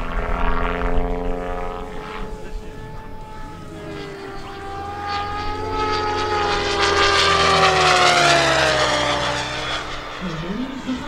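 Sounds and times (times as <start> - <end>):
model helicopter motor whine: 0.0 - 11.0.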